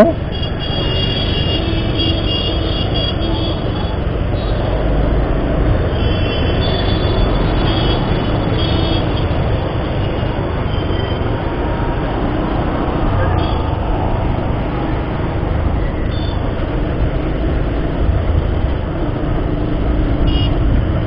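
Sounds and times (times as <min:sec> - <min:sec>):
surrounding traffic: 0:00.0 - 0:21.0.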